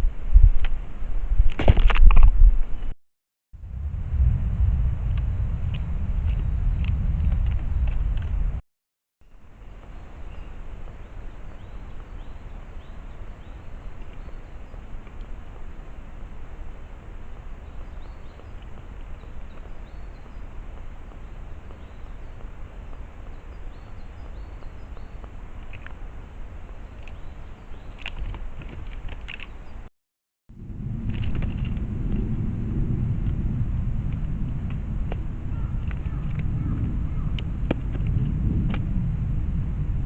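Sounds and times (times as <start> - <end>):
outdoor background noise: 0.0 - 3.0, 3.6 - 8.6, 9.2 - 29.9, 30.5 - 40.0.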